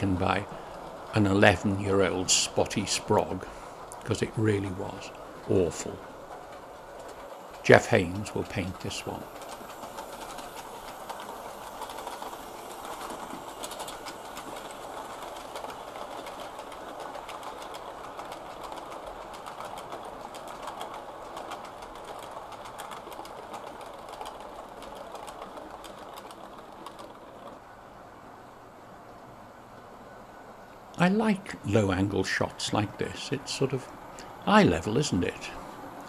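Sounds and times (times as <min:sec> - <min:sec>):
model train wheels rumbling: 0:00.0 - 0:36.0
wheels clicking over rail joints: 0:00.0 - 0:36.0.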